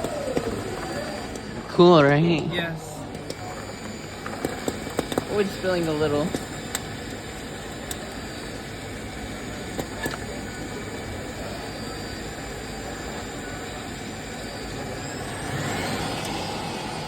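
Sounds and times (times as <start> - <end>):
popcorn machine whirring: 0.0 - 17.0.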